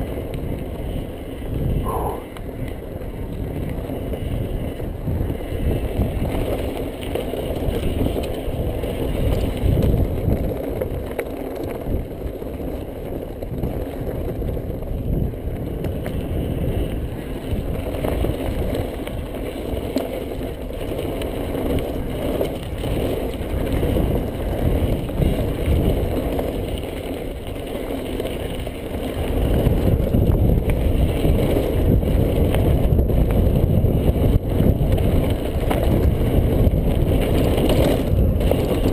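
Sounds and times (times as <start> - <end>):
bike rattling: 0.0 - 38.9
tyres rumbling over gravel: 0.0 - 38.9
wind rumble on microphone: 0.0 - 38.9.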